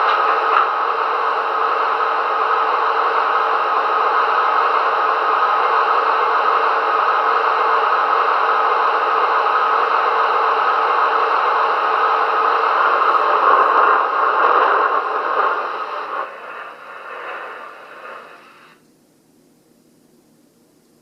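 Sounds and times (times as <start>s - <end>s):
hissing diesel engine sound effect: 0.0s - 18.8s.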